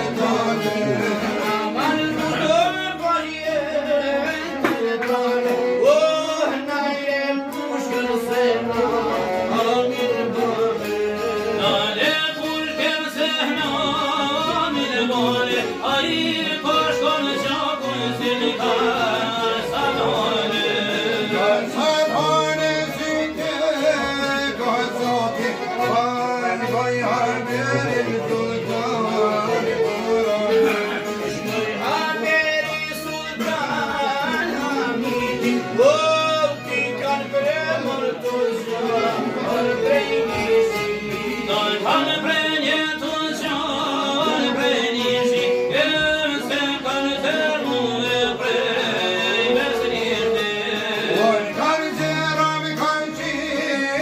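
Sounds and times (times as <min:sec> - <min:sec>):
strummed lutes: 0:00.0 - 0:54.0
violin melody: 0:00.0 - 0:54.0.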